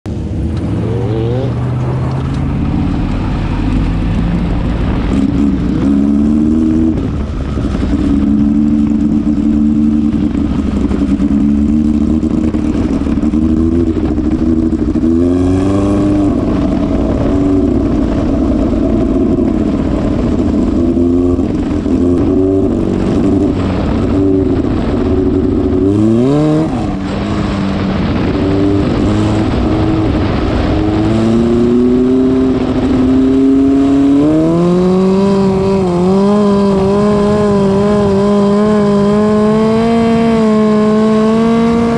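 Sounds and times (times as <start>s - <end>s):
race car engine revving: 0.1s - 41.9s.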